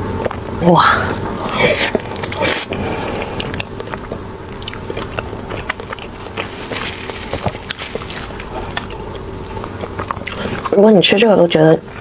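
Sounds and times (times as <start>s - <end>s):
biting and chewing: 0.0s - 10.8s.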